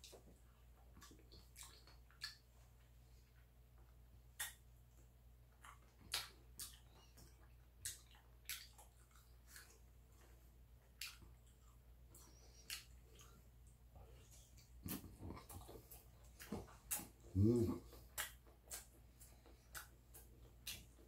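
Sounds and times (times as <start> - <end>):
chewing with wet mouth clicks: 0.0 - 21.0
low steady hum: 0.0 - 21.0.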